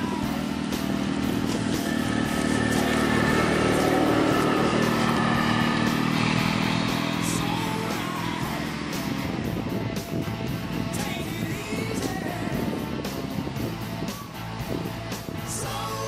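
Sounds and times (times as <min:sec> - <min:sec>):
utility vehicle engine passing: 0:00.0 - 0:15.5.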